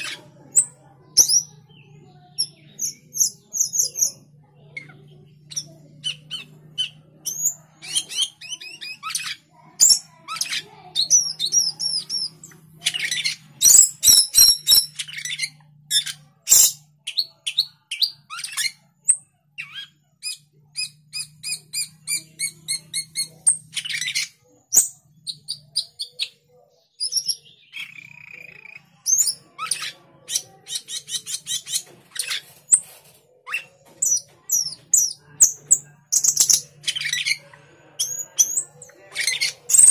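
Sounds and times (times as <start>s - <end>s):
starling chirping and whistling: 4.8s - 26.4s, 27.0s - 39.9s.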